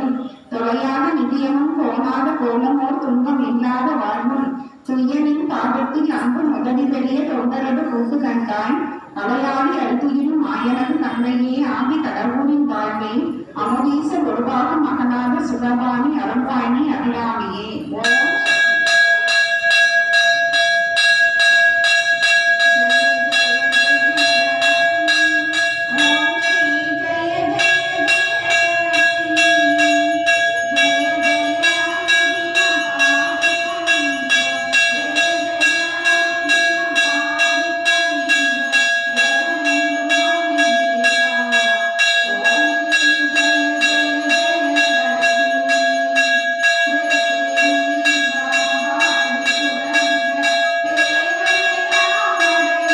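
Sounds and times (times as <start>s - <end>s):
temple bell rung rapidly: 0.0s - 52.9s.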